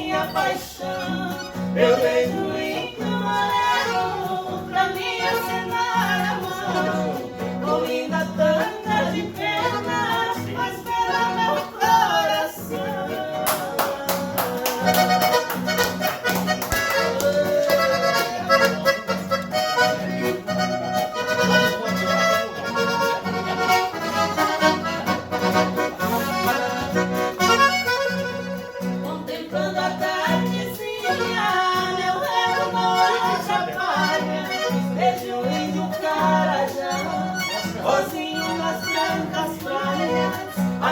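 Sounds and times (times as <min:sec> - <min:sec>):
accordion playing a tune: 0:00.0 - 0:40.9.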